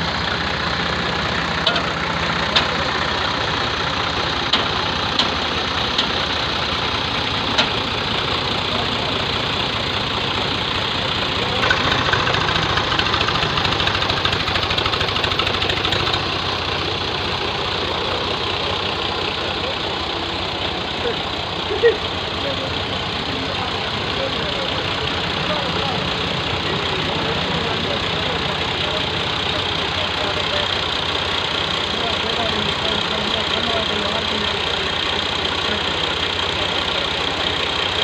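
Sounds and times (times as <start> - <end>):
diesel tractor engine idling: 0.0 - 38.0.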